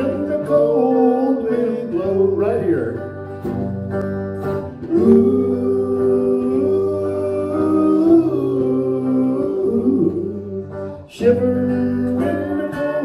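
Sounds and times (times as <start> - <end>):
guitar accompaniment: 0.0 - 13.0
wordless vocal melody: 0.0 - 13.0.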